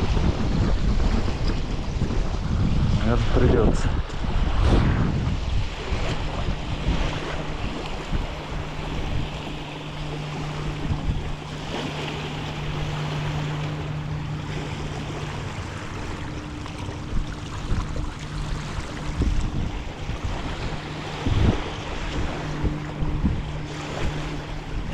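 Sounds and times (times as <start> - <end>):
gusty wind on microphone: 0.0 - 24.9
steady low hum: 0.0 - 24.9.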